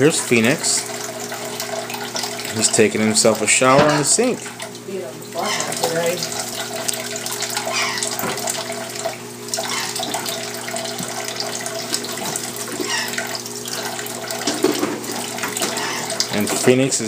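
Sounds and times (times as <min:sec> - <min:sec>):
tap water splashing into sink: 0:00.0 - 0:17.0.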